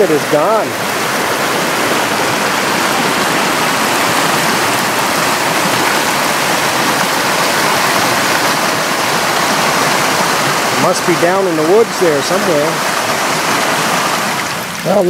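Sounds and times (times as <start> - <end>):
fast-flowing water rushing: 0.0 - 15.0.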